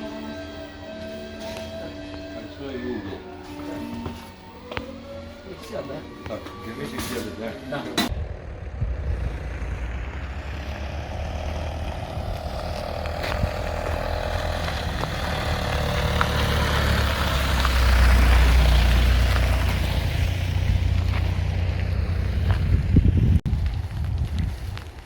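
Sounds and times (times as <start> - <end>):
vehicle engine droning: 0.2 - 25.0.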